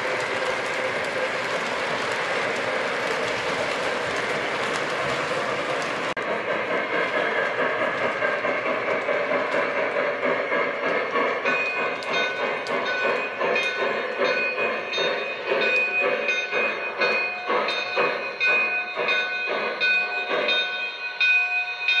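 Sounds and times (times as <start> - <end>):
wheels clicking over rail joints: 0.0 - 21.6
model steam locomotive chuffing: 0.0 - 22.0.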